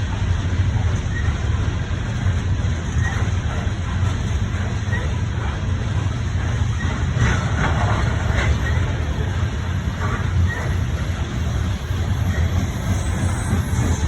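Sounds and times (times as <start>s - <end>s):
train clattering: 0.0s - 14.0s
train passing rumble: 0.0s - 14.0s.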